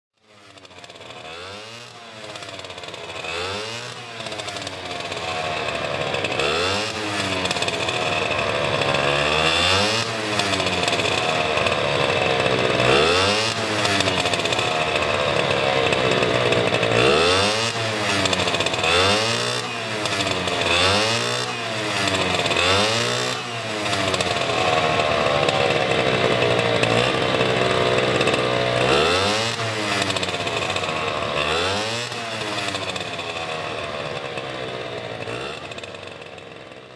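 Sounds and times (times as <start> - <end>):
two-stroke engine revving: 0.2 - 36.9.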